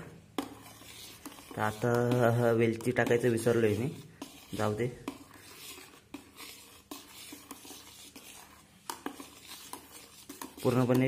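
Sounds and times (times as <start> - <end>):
spoon stirring liquid: 0.0 - 11.0.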